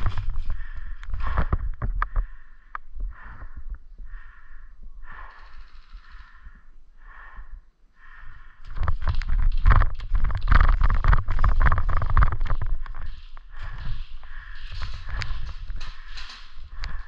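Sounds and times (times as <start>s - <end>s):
person breathing close: 0.0s - 9.5s, 11.4s - 17.0s.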